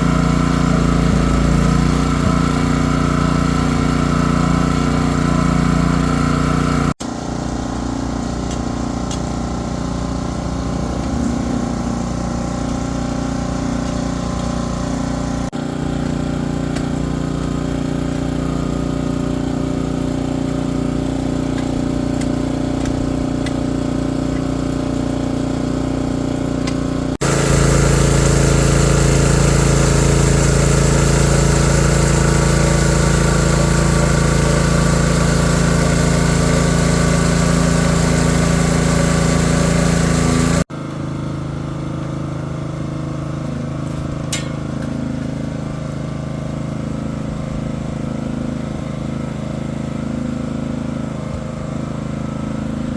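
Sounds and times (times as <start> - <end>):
engine-driven machinery running: 0.0 - 52.9.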